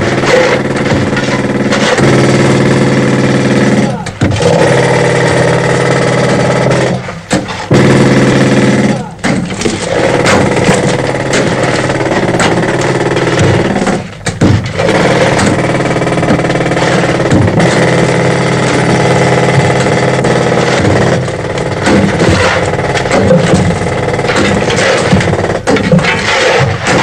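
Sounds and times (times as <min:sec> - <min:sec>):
pneumatic pick hammering: 0:00.0 - 0:27.0.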